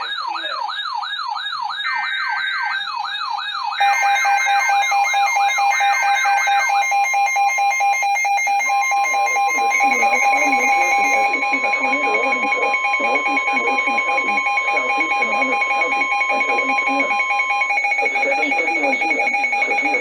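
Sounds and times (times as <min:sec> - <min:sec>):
electronic siren wailing: 0:00.0 - 0:20.0
chirping data tones: 0:03.8 - 0:20.0
steady alert tone: 0:03.8 - 0:20.0.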